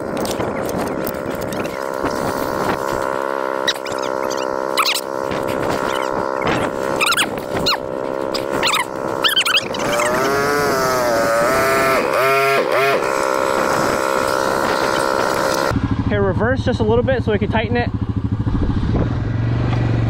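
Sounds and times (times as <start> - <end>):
atv engines idling: 0.0 - 18.6
wavering whine: 0.0 - 19.0.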